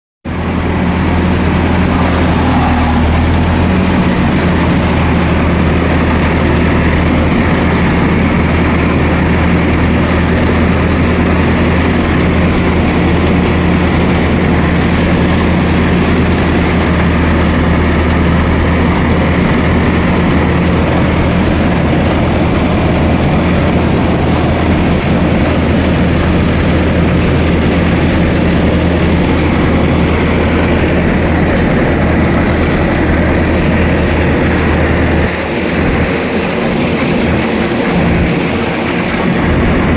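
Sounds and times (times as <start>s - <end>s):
bulldozer diesel engine running: 0.2s - 39.9s
mechanical clatter: 0.3s - 39.9s.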